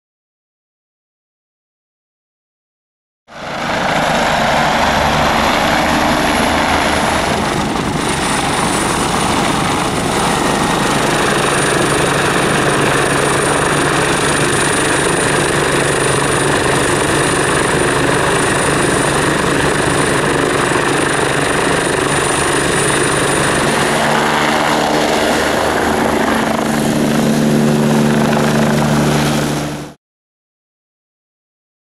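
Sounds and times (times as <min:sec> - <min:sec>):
helicopter rotor beat: 0:03.3 - 0:30.0
low drone: 0:03.3 - 0:30.0
high turbine whine: 0:03.4 - 0:30.0.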